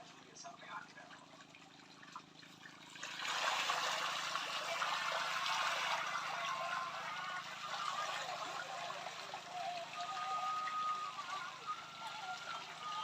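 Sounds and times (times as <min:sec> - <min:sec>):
water rushing: 0:02.4 - 0:13.0.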